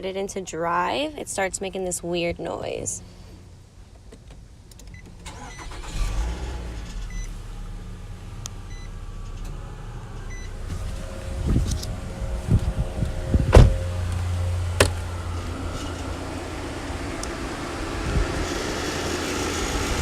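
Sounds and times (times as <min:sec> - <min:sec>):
car engine starting and running: 0:03.4 - 0:20.0.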